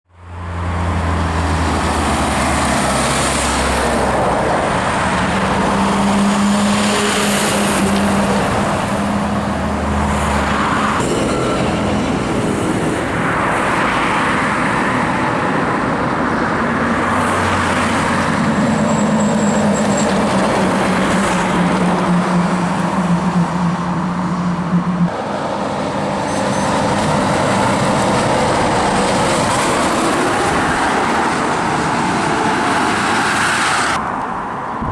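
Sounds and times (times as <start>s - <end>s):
road traffic noise: 0.1s - 34.9s
truck diesel engines passing: 0.1s - 34.9s.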